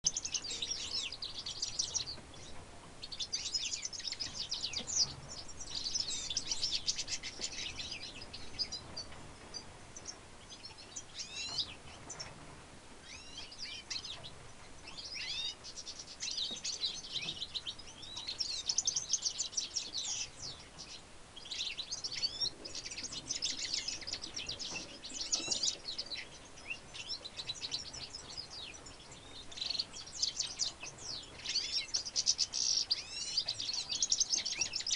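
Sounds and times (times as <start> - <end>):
finch twittering song: 0.0 - 12.4, 13.0 - 34.9.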